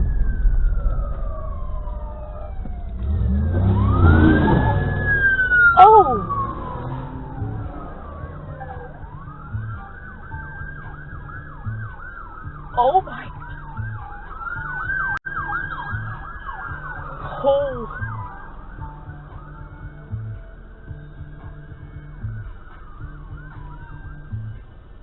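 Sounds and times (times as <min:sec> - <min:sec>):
emergency siren: 0:00.0 - 0:24.8.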